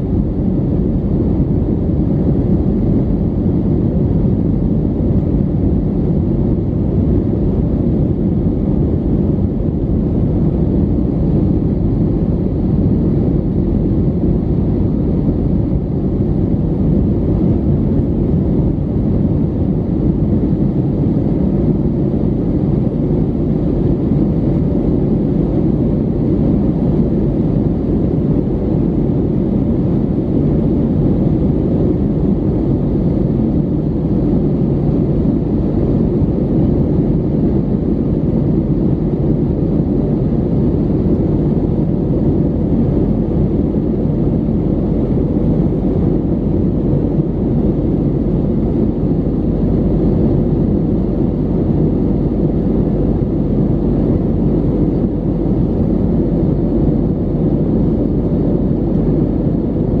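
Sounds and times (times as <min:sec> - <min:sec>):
airplane cabin drone: 0:00.0 - 1:00.0.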